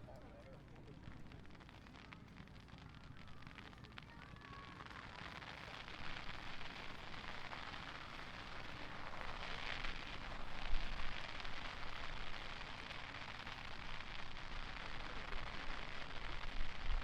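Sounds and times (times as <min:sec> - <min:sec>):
fireworks crackling and fizzling: 0:00.0 - 0:17.0.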